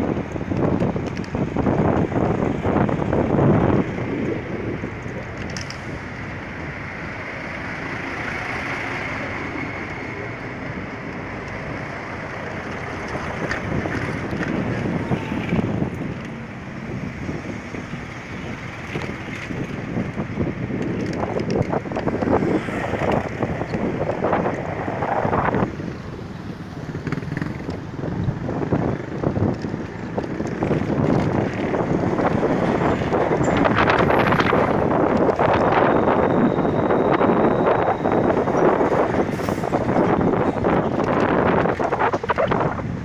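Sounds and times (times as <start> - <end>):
vehicle road noise: 0.0 - 43.0
wind over microphone: 0.0 - 43.0.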